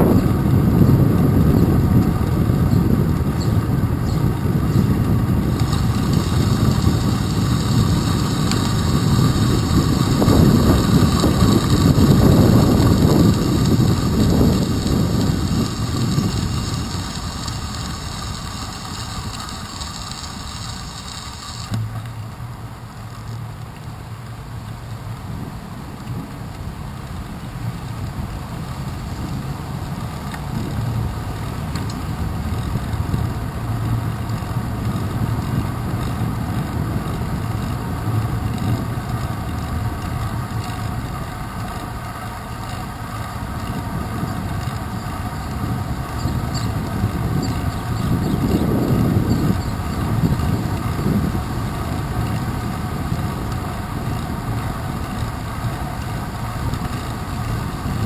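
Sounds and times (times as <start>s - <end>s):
bicycle rolling on wet pavement: 0.0s - 58.0s
wind noise: 0.0s - 58.0s.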